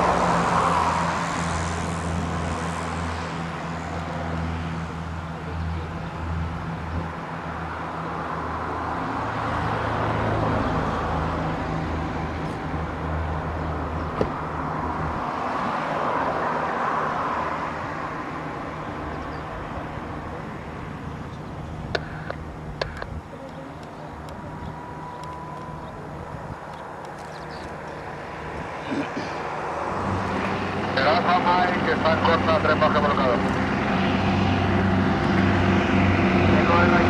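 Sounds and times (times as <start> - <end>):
light aircraft engine hum: 0.0 - 37.0.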